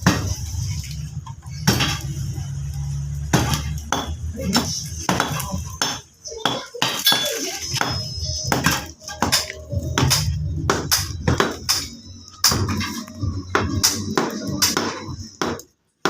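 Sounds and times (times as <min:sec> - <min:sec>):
voices: 0:01.4 - 0:15.4.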